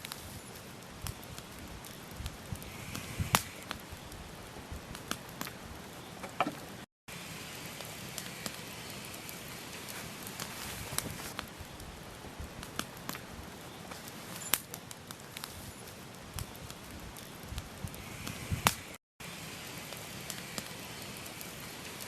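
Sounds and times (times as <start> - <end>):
campfire flames hissing: 0.0 - 22.0
logs crackling and popping: 0.0 - 22.0.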